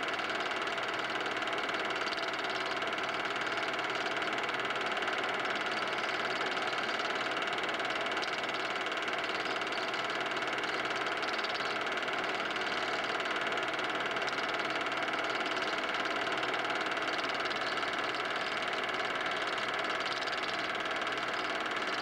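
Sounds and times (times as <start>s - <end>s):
film projector whirring: 0.0s - 22.0s.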